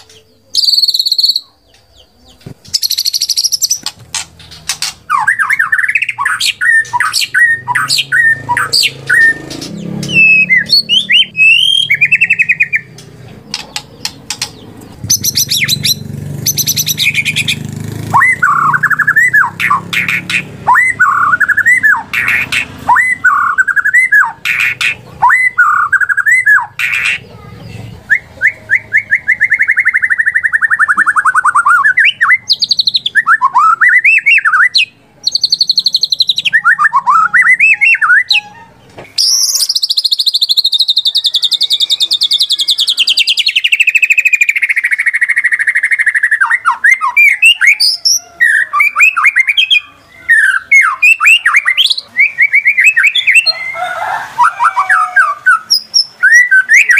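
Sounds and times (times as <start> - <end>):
bird singing whistled trills: 0.0 - 2.1, 2.7 - 13.0, 15.0 - 27.2, 28.1 - 53.8, 54.4 - 56.9.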